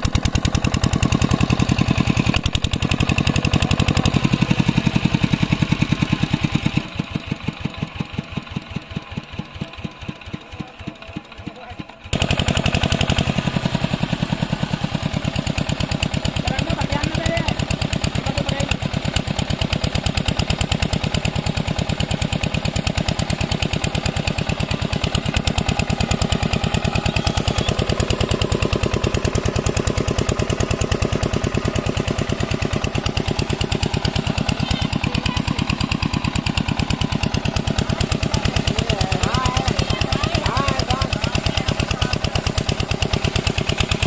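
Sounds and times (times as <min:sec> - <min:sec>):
diesel water pump chugging: 0:00.0 - 0:44.0.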